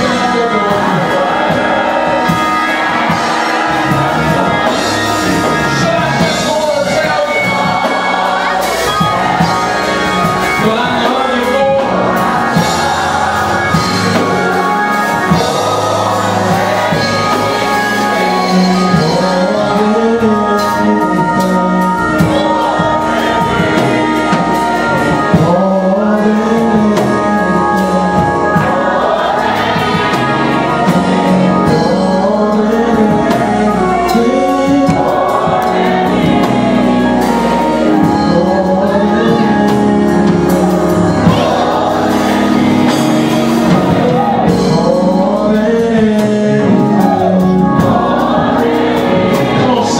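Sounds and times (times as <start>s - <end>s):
choir singing together: 0.0s - 49.9s
gospel band playing: 0.0s - 49.9s.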